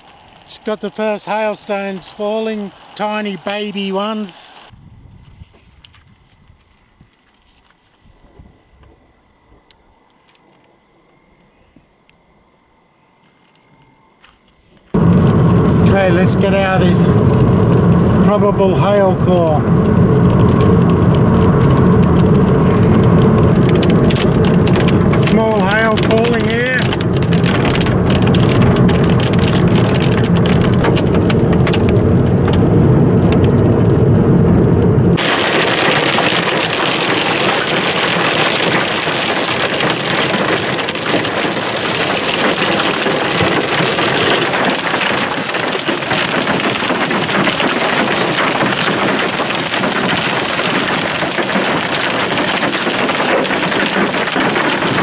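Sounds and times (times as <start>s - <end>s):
hail and rain hitting a car: 0.0s - 4.7s, 15.0s - 55.0s.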